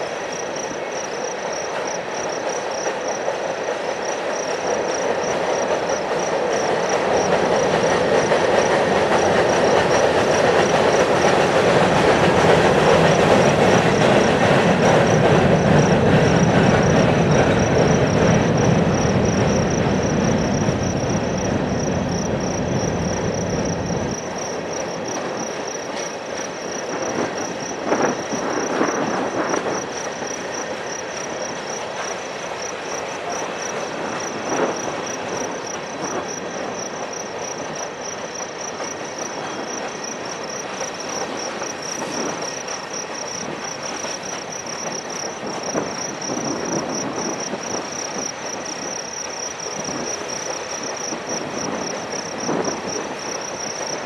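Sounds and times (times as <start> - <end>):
freight train rolling past: 0.0 - 54.0
insects trilling: 0.0 - 54.0
train cars knocking: 0.0 - 54.0.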